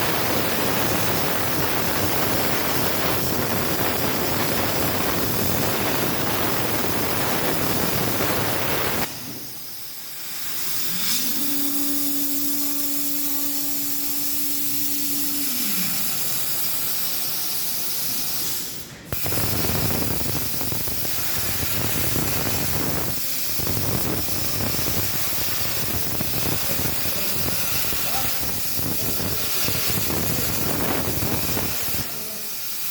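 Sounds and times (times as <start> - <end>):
plasma torch arc hissing: 0.0 - 32.9.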